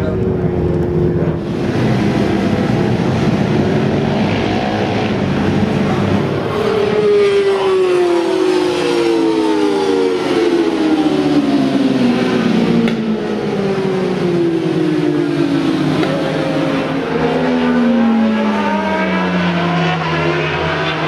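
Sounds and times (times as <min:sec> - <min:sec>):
racing motorcycles passing: 0:00.0 - 0:21.0.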